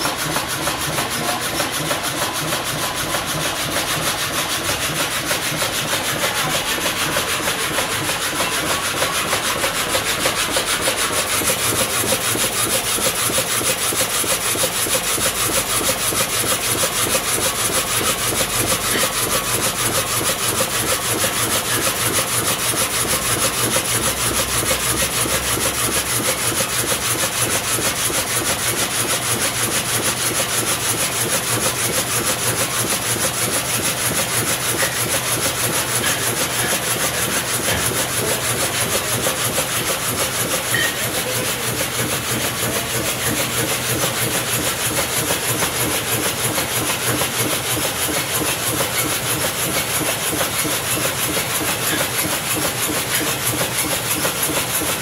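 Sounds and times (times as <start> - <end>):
frame saw rasping through wood: 0.0 - 55.0.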